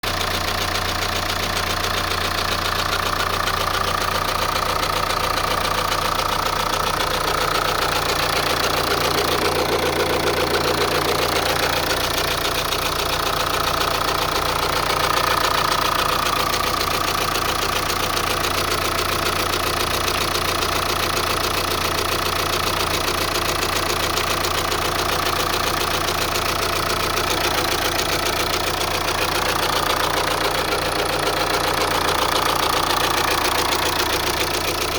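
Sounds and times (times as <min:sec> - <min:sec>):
diesel engine idling clatter: 0:00.0 - 0:34.9.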